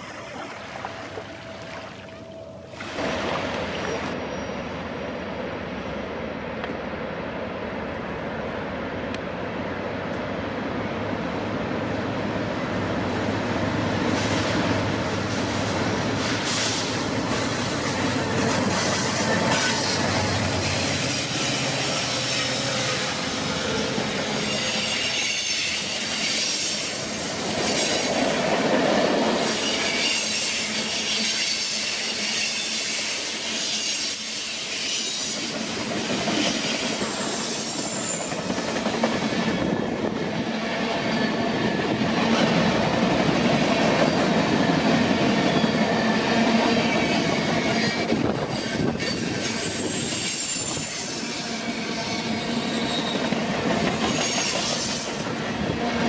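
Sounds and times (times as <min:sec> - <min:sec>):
diesel locomotive engines: 0:00.0 - 0:56.0
train wheel squeal: 0:03.8 - 0:05.0, 0:11.7 - 0:42.7, 0:43.3 - 0:56.0.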